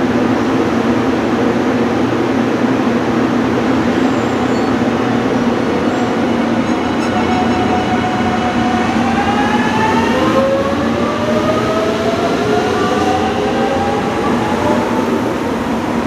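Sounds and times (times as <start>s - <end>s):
electric train whine accelerating: 0.1s - 16.0s.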